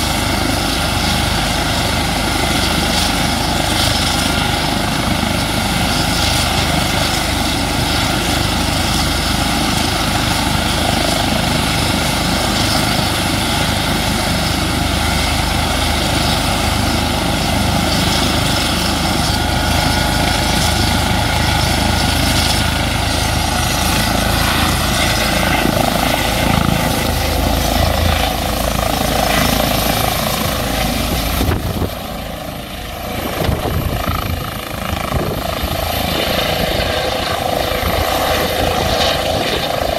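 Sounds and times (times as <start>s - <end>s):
helicopter turbine and rotor noise: 0.0s - 39.9s.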